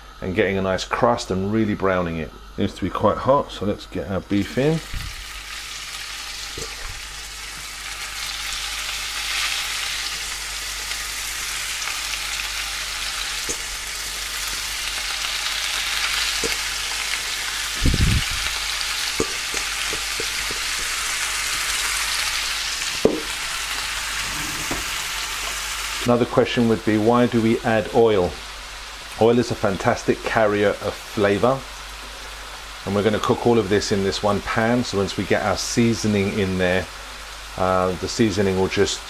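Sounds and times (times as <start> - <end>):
meat sizzling in hot oil: 4.5 - 39.0.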